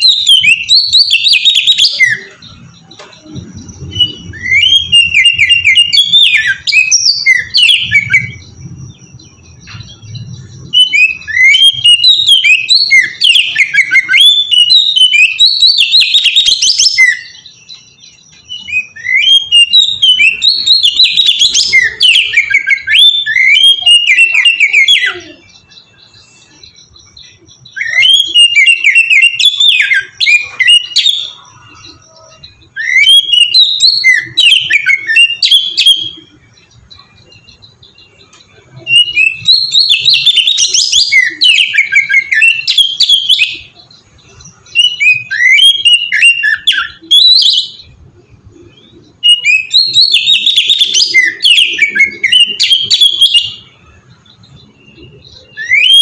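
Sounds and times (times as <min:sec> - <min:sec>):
songbird whistled phrases: 0:00.0 - 0:08.6, 0:09.4 - 0:48.0, 0:48.7 - 0:56.0.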